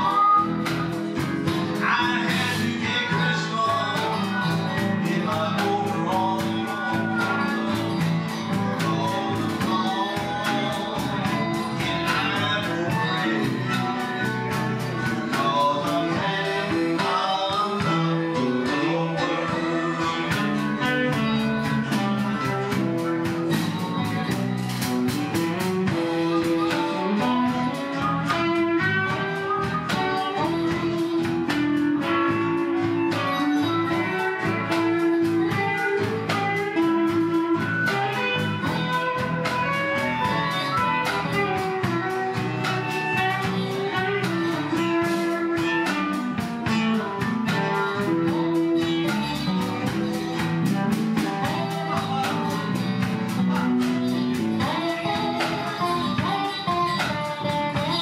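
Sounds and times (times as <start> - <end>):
live band playing country blues: 0.0 - 58.0.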